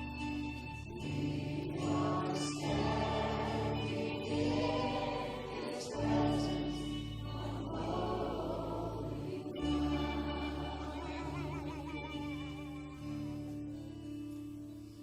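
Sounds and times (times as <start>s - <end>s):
voices singing together: 0.0s - 14.5s
band playing sustained chords: 0.0s - 15.0s.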